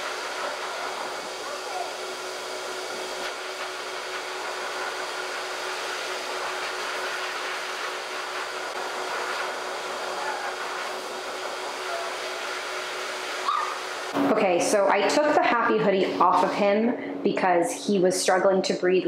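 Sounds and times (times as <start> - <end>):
dog dryer blowing air: 0.0 - 17.2.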